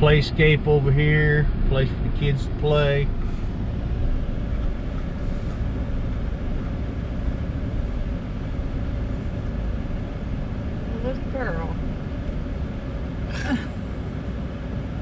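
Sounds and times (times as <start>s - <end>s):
truck engine and tyre rumble: 0.0s - 15.0s.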